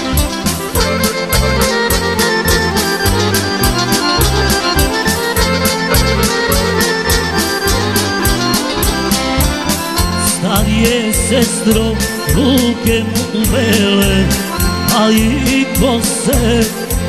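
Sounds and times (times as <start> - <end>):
accordion melody: 0.0 - 17.0
pulsing bass: 0.0 - 17.0
steady beat: 0.0 - 17.0.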